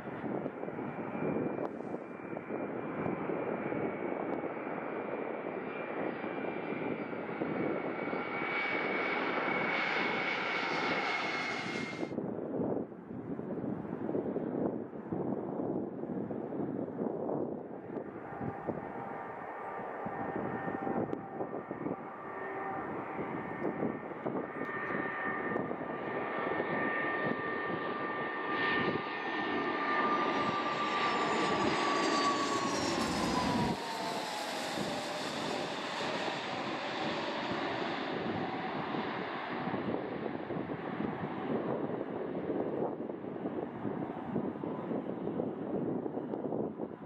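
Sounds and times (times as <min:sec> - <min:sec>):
jet engines whining: 0:00.0 - 0:12.2, 0:17.7 - 0:47.0
wind gusts on microphone: 0:00.0 - 0:47.0.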